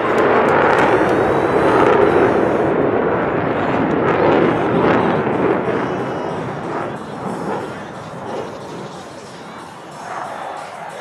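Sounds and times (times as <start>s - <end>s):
jet engines roaring past: 0.0s - 11.0s.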